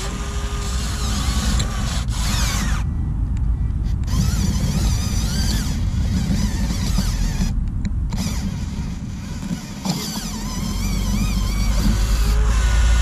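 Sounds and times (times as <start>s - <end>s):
toy excavator motors whining: 0.0s - 3.1s, 3.8s - 13.0s.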